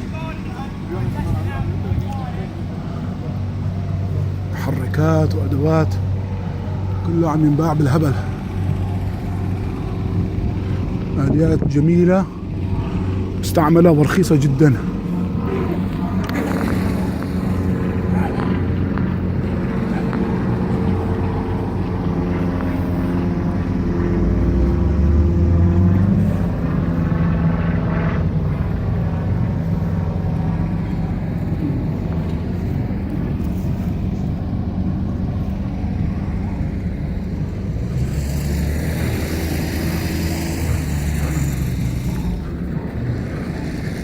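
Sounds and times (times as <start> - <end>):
heavy machinery engines running: 0.0 - 44.0.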